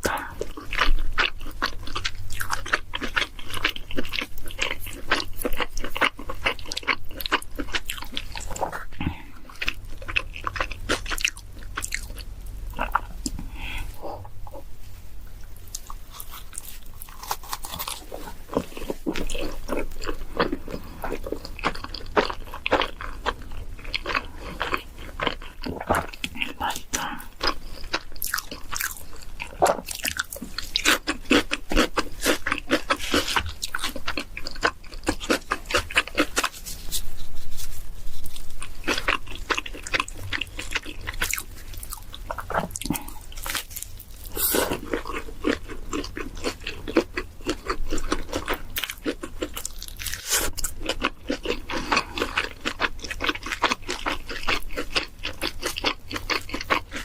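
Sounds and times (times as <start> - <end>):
person chewing pizza: 0.0 - 57.0.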